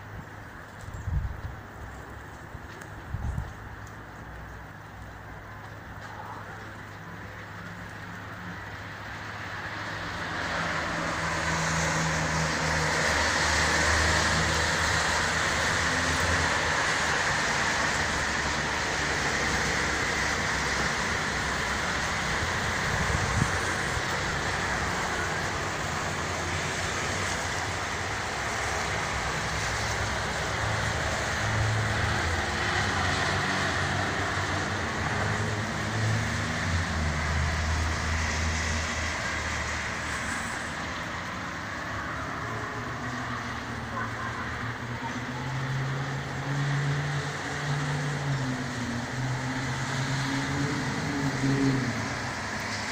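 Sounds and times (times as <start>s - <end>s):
distant road traffic: 0.0s - 52.9s.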